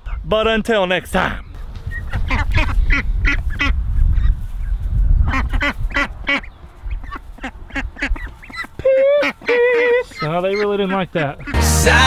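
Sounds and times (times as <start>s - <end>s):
ducks quacking: 0.9s - 12.0s.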